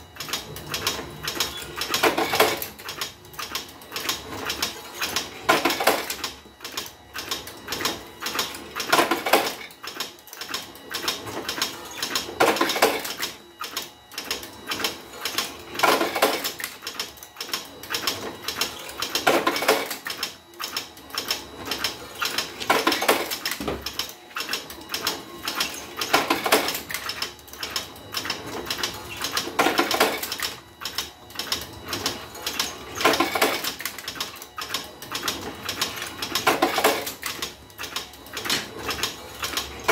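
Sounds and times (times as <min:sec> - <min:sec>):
machine mechanism clicking: 0:00.2 - 0:39.9.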